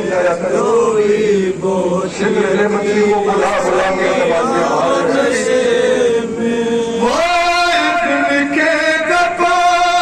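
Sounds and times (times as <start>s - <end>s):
man singing a lament into a microphone: 0.0s - 10.0s.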